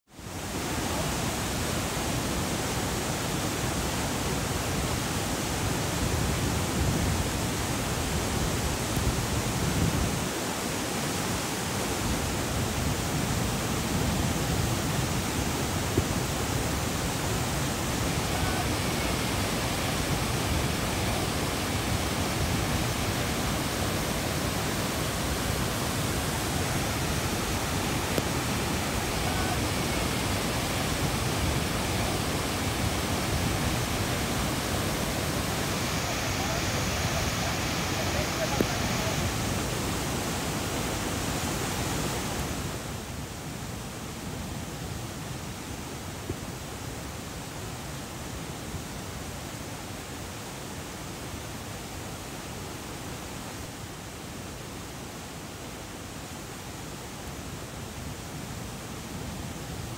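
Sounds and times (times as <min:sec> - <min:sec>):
waterfall rushing over rocks: 0:00.1 - 0:59.9.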